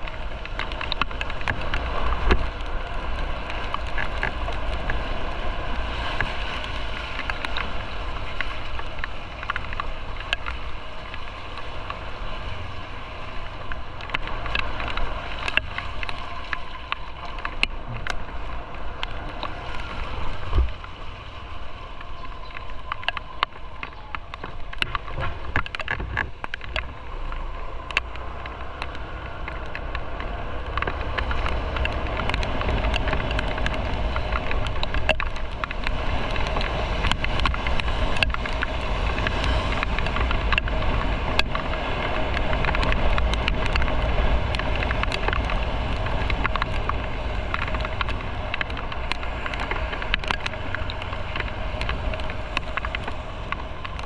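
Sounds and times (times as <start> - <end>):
motorcycle engine and road rumble: 0.0 - 54.0
wind noise on microphone: 0.0 - 54.0.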